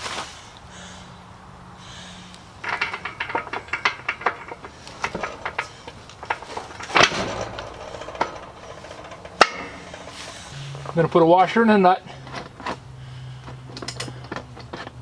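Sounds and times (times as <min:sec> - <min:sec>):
metal hardware clinking and clanking: 0:02.6 - 0:15.0.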